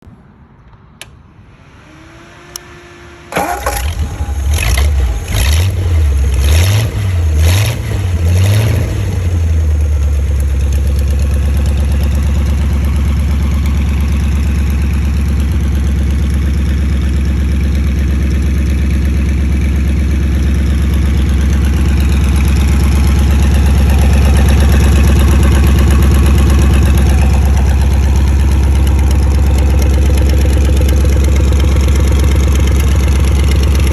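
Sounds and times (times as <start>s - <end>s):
motorcycle engine starting and revving: 1.0s - 33.9s.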